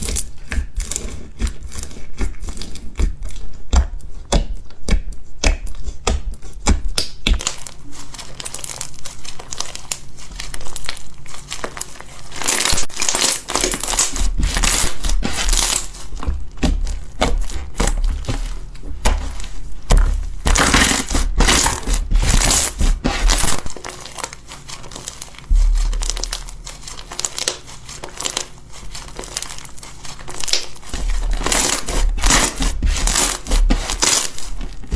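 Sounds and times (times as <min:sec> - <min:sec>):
slime squished by hand: 0:00.0 - 0:34.9.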